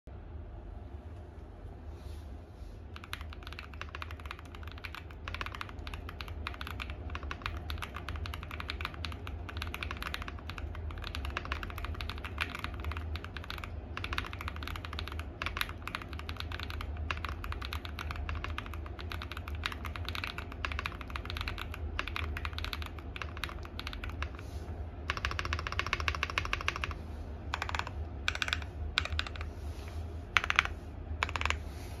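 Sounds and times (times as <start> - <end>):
mechanical keyboard typing: 2.9 - 24.4, 25.0 - 29.5, 30.4 - 31.6.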